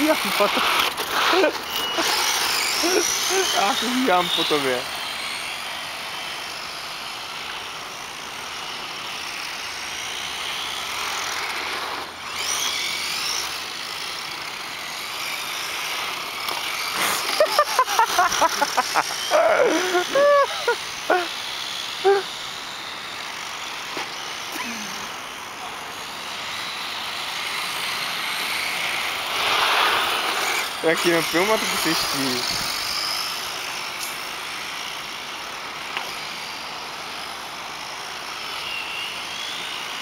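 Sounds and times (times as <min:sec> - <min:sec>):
outdoor noise: 0:00.0 - 0:40.0
rc car motors whining: 0:00.0 - 0:40.0.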